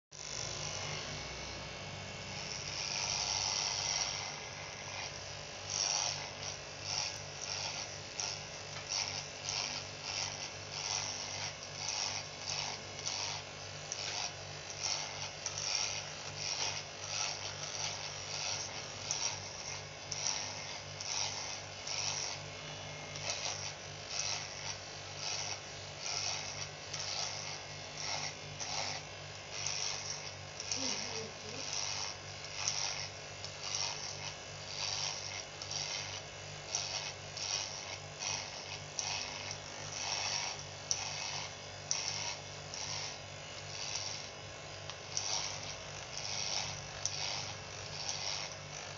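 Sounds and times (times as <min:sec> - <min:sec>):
electric hair clippers buzzing: 0:00.2 - 0:48.9.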